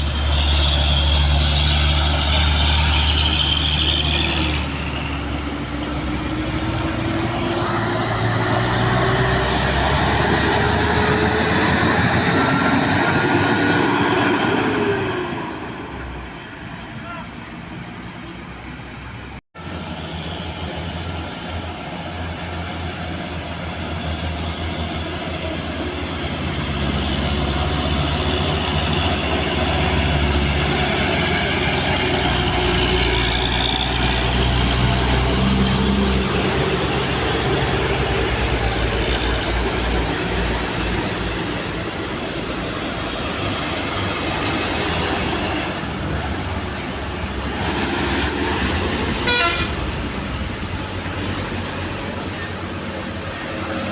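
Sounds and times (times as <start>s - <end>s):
heavy vehicle engine rumbling: 0.0s - 53.9s.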